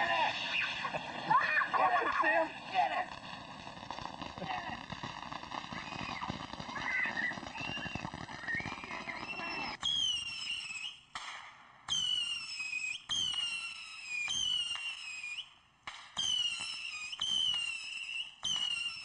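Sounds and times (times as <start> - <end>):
whistling fireworks: 0.0 - 19.0.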